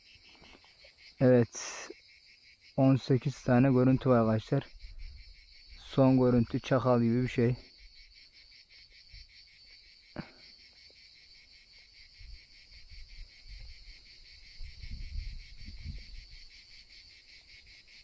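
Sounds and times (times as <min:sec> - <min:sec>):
cicadas singing: 0:00.0 - 0:18.0.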